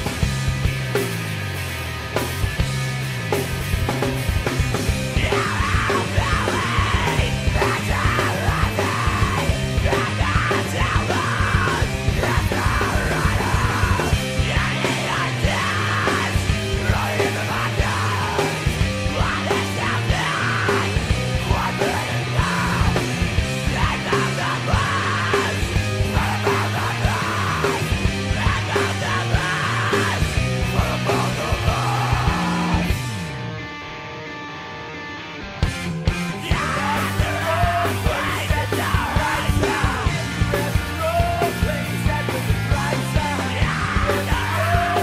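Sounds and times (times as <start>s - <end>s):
rock band with drums: 0.0s - 45.0s
yelled vocals: 2.4s - 33.5s, 36.0s - 45.0s.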